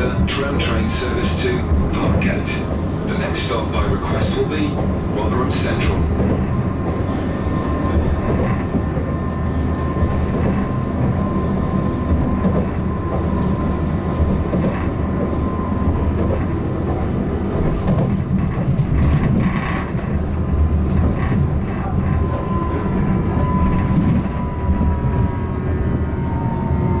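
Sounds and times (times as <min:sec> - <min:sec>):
tram wheels rumbling on rail: 0:00.0 - 0:27.0.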